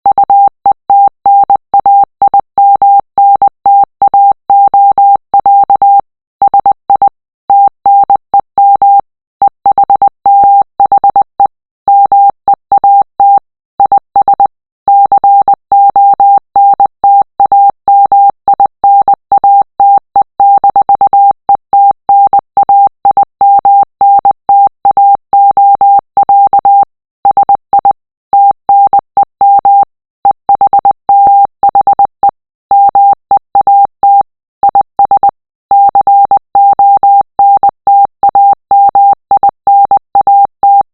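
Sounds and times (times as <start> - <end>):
morse code beeps: 0.1 - 40.9.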